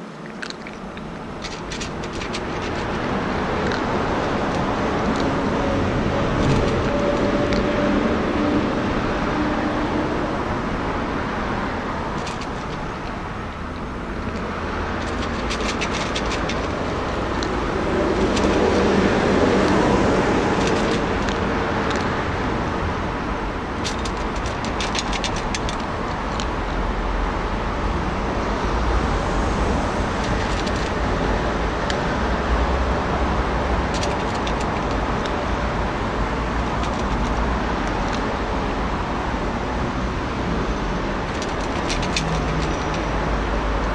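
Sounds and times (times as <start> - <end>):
cat crunching dry kibble: 0.0 - 8.0, 11.5 - 26.7, 29.1 - 39.9, 40.5 - 43.9
road traffic noise: 0.0 - 43.9.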